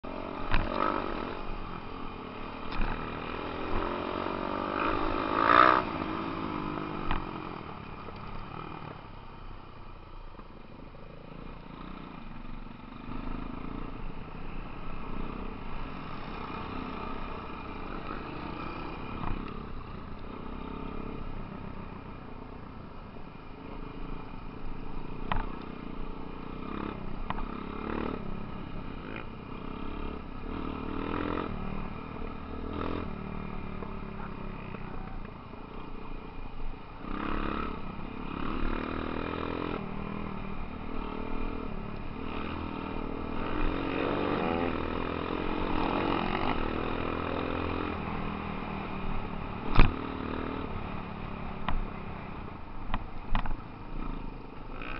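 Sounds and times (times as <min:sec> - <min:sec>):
dirt bike engines revving: 0:00.0 - 0:54.9.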